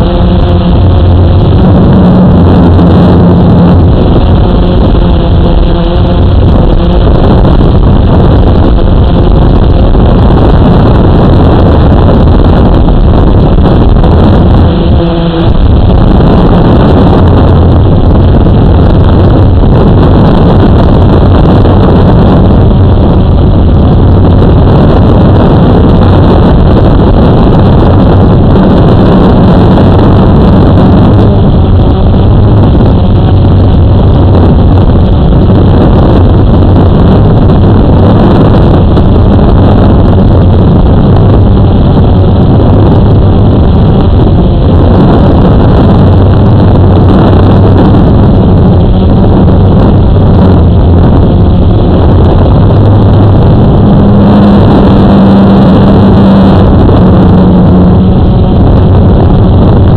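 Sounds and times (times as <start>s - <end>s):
quadcopter motors and propellers: 0.0s - 54.9s.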